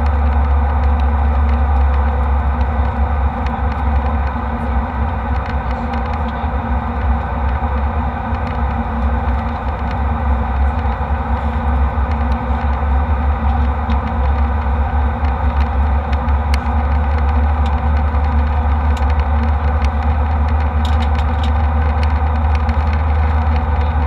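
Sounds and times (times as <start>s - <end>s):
jet cabin engine rumble: 0.0s - 24.0s.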